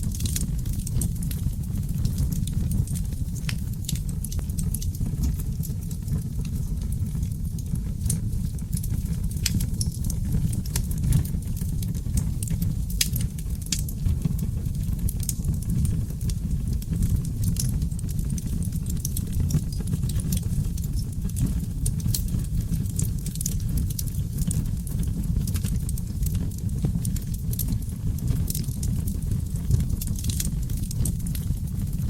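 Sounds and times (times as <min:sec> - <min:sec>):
burning logs crackling and popping: 0:00.0 - 0:32.0
low rumble of flames: 0:00.0 - 0:32.0.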